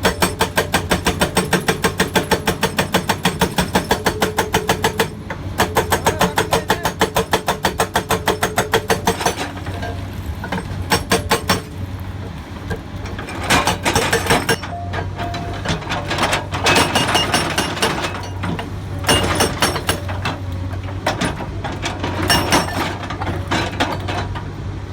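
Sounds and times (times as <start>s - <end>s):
hydraulic rock breaker hammering: 0.0s - 11.8s, 12.6s - 24.4s
excavator engine running: 0.0s - 24.9s.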